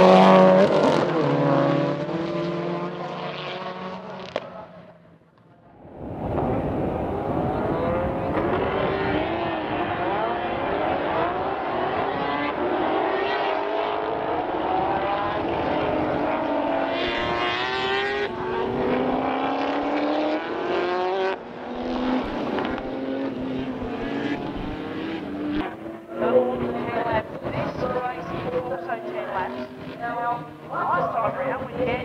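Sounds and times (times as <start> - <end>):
racing car engines accelerating: 0.0 - 32.0.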